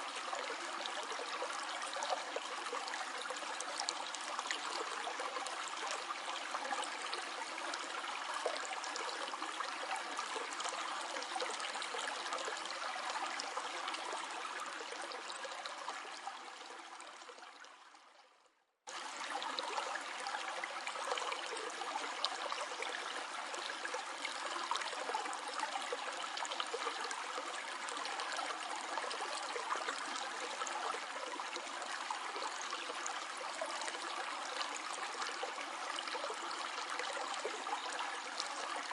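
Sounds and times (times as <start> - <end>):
stream flowing: 0.0 - 17.9, 18.9 - 38.9.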